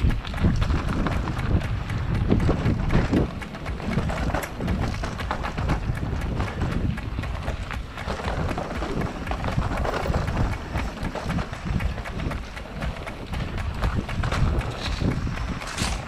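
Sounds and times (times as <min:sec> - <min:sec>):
bike rattling over bumps: 0:00.0 - 0:16.0
knobby tyres rolling over rocks: 0:00.0 - 0:16.0.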